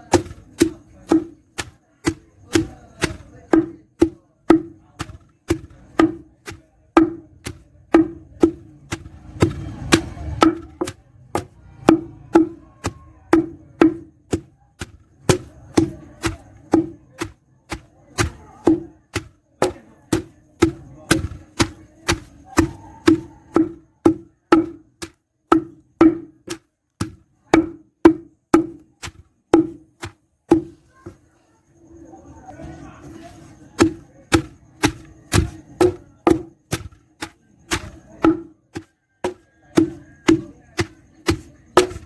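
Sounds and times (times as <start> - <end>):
pestle pounding in a mortar: 0.0 - 31.2, 33.0 - 42.0.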